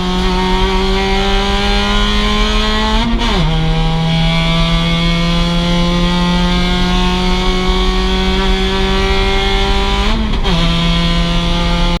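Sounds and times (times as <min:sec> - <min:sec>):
car engine running under throttle: 0:00.0 - 0:12.0.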